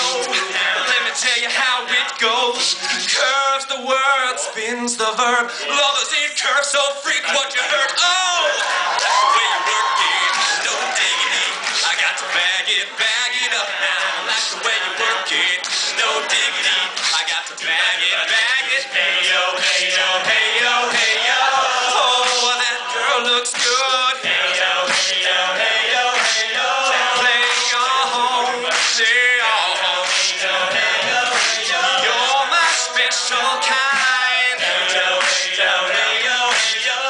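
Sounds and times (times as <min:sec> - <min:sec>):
male a cappella group singing: 0:00.0 - 0:37.0.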